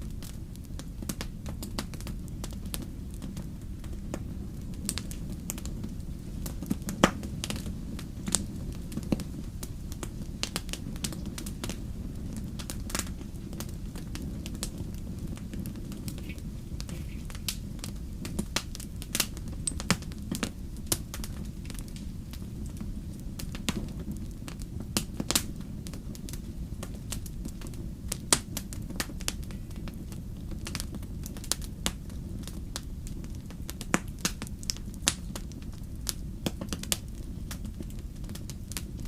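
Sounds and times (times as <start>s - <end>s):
fire crackling and popping: 0.0s - 39.0s.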